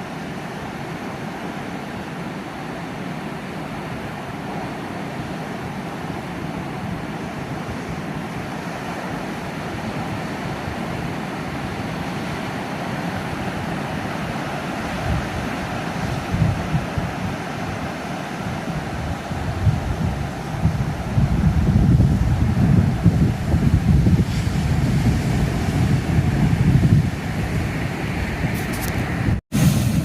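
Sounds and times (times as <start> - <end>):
sea surf washing against shore: 0.0 - 30.0
wind buffeting microphone: 5.2 - 30.0.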